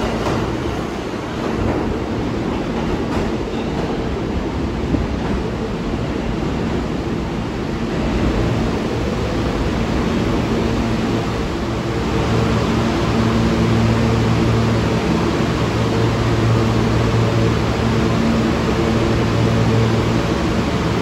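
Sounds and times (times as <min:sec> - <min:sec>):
subway train rumble and hiss: 0:00.0 - 0:21.0.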